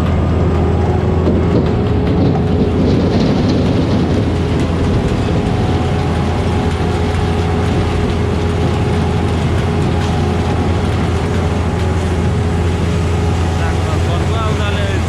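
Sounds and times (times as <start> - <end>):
diesel engine drone: 0.0 - 15.0
machinery clattering: 0.0 - 15.0.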